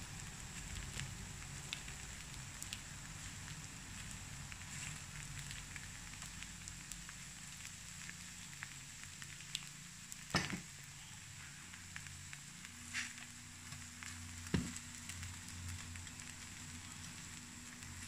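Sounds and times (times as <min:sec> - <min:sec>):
batter sizzling in a pan: 0:00.0 - 0:18.0.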